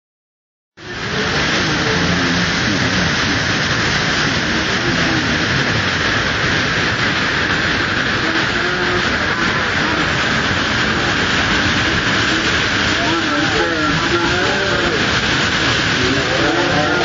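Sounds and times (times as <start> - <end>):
waterfall crashing onto rocks: 0.8 - 17.0.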